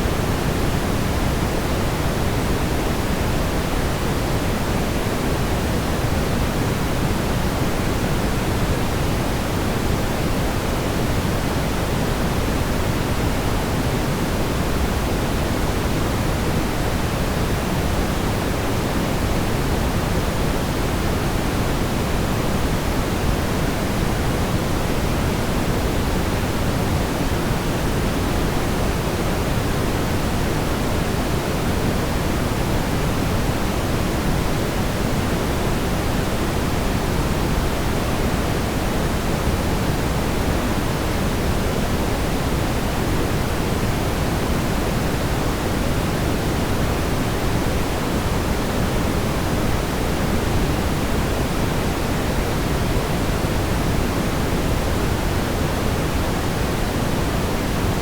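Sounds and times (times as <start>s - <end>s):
brown noise hiss: 0.0s - 58.0s.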